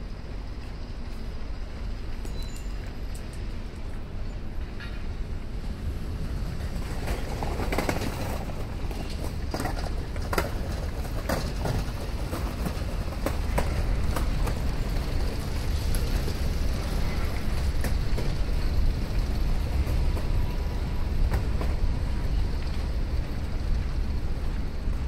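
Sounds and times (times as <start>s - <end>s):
low city rumble: 0.0s - 25.0s.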